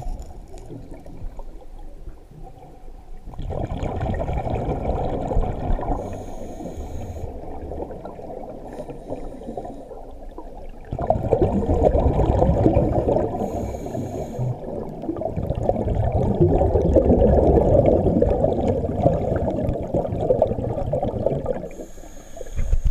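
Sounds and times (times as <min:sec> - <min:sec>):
muffled underwater water churning: 0:00.0 - 0:22.9.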